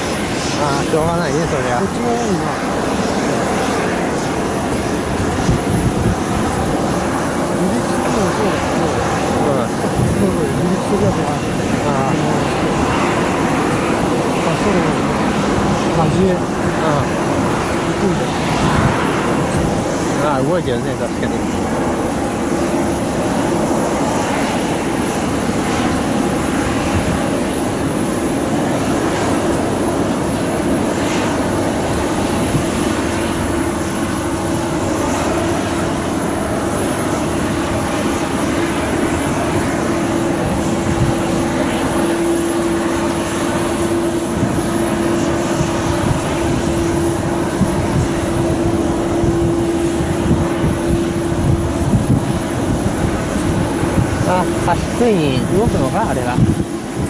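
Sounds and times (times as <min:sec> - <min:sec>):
jet airliner drone: 0:00.0 - 0:57.0.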